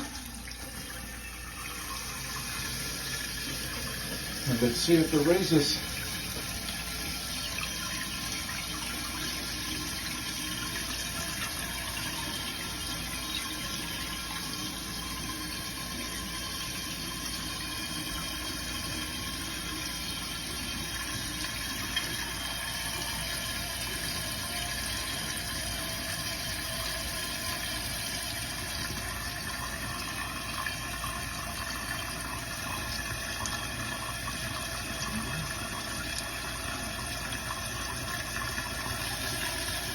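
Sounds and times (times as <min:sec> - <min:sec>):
toilet tank refilling: 0:00.0 - 0:39.9.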